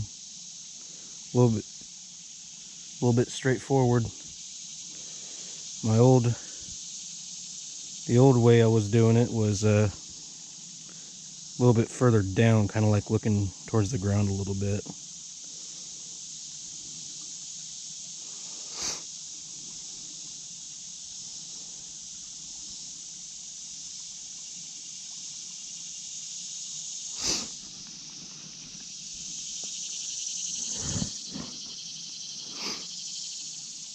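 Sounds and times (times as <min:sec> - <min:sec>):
crickets and insects chirring: 0:00.0 - 0:33.9.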